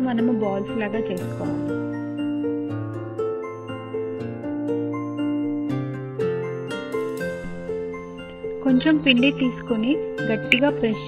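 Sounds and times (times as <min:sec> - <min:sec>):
slow instrumental melody: 0:00.0 - 0:11.0.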